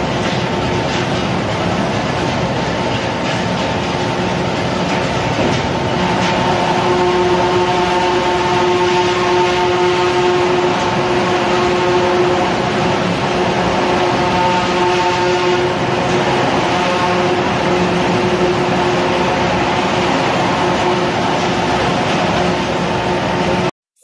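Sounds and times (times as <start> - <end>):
multi-tone machine whine: 0.0 - 23.7.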